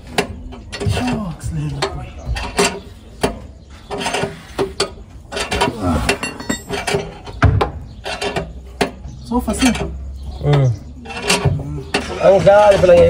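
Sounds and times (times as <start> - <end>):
wheel spanner clinking: 0.0 - 13.0.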